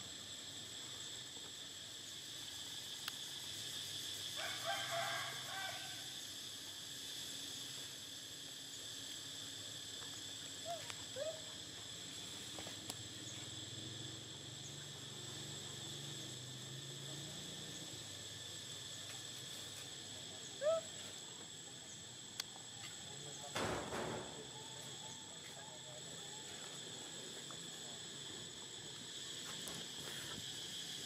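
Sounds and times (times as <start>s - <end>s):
insect chorus drone: 0.0s - 31.0s.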